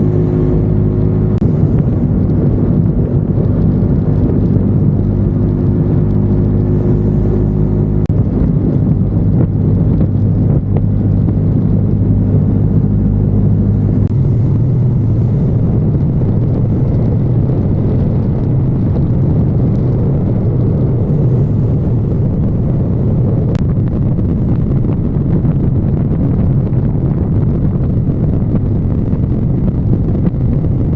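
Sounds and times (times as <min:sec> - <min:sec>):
motorcycle engine running: 0:00.0 - 0:30.9
wind rumble on microphone: 0:00.0 - 0:30.9.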